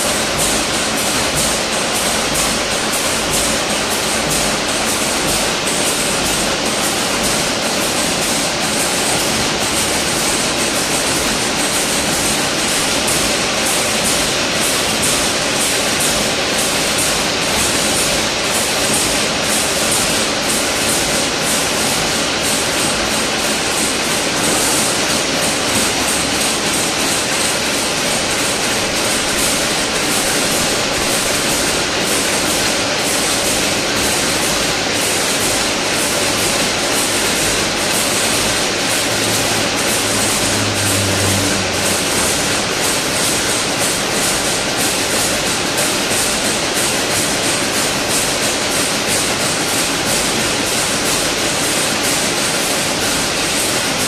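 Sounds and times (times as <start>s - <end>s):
fast repeating mechanical ticks: 0.0s - 54.0s
fence weaving machine running: 0.0s - 54.0s.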